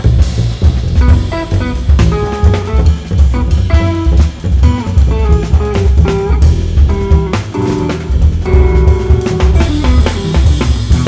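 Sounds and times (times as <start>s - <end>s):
drum kit: 0.0s - 11.0s
electric guitar fast run: 0.0s - 11.0s
upright bass: 0.0s - 11.0s.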